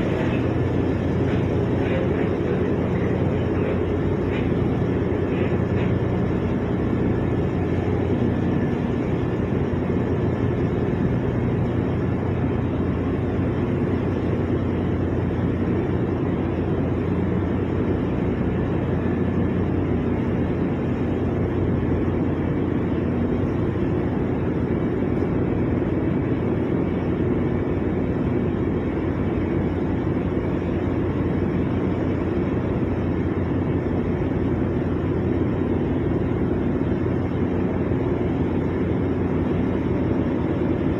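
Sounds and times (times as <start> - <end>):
ship engine drone: 0.0 - 40.9.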